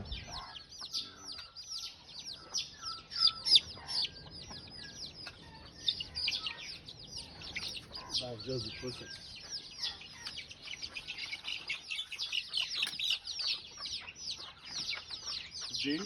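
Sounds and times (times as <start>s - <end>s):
chickens chirping: 0.0s - 16.0s.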